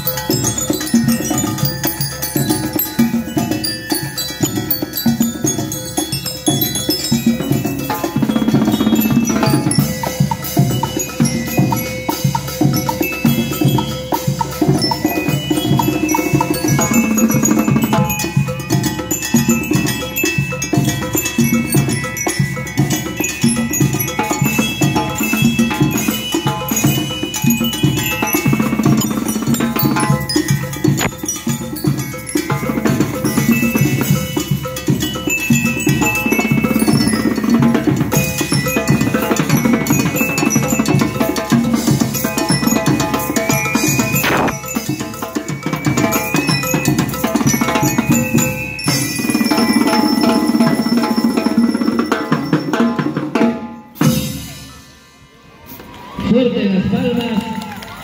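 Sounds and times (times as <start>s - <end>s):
bell lyre melody: 0.0s - 55.1s
drums keeping a beat: 0.0s - 55.1s.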